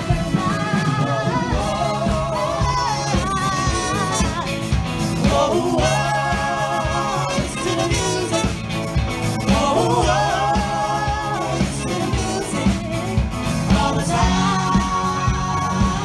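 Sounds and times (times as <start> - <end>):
live band playing: 0.0 - 16.0
person singing: 0.0 - 16.0.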